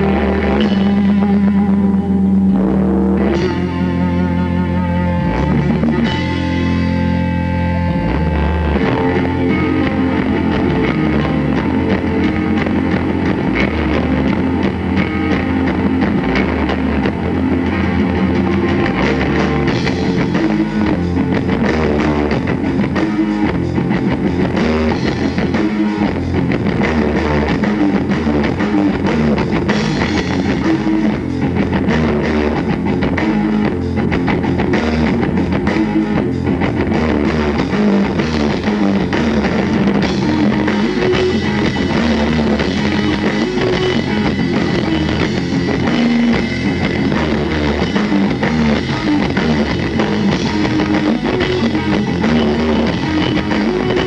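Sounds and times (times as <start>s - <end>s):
drums: 0.0s - 54.0s
electric guitar chord ringing: 0.0s - 54.0s
rock band playing live: 0.0s - 54.0s.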